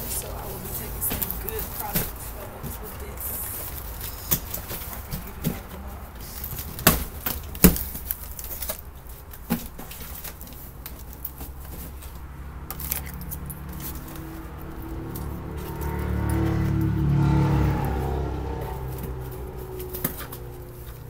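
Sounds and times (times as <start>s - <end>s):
cardboard rustling: 0.0s - 16.0s, 18.9s - 21.0s.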